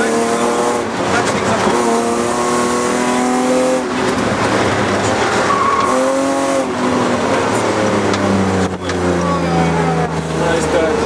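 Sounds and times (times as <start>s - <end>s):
car engine at high revs: 0.0s - 11.0s
tyre and road noise: 0.0s - 11.0s.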